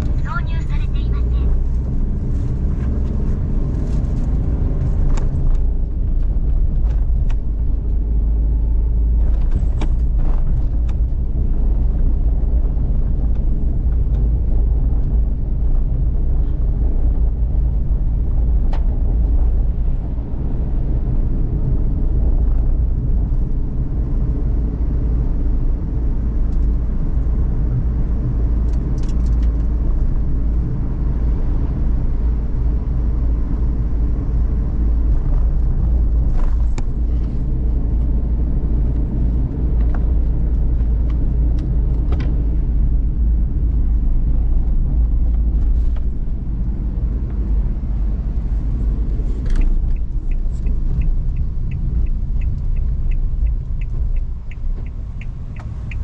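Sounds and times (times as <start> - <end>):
road noise: 0.0 - 56.0
van engine rumble: 0.0 - 56.0.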